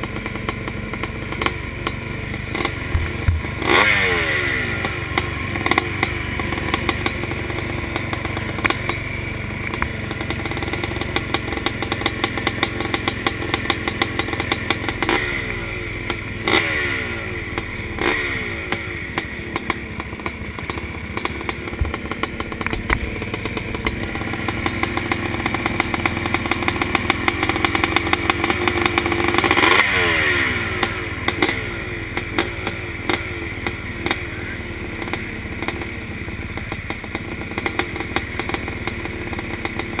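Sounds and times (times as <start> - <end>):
motocross bike engines idling: 0.0 - 40.0.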